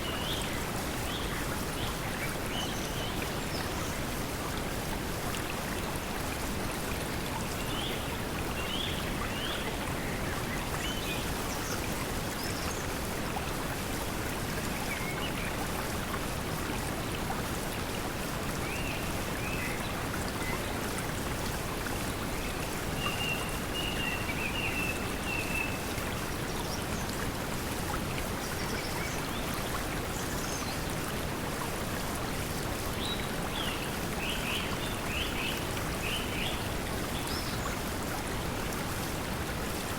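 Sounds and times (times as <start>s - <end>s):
flowing stream water: 0.0s - 39.9s.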